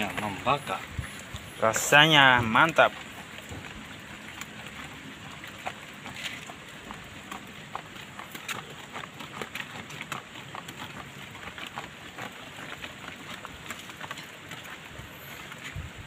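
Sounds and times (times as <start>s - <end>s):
fire crackling and popping: 0.0s - 16.0s
leaves rustling: 0.0s - 16.0s.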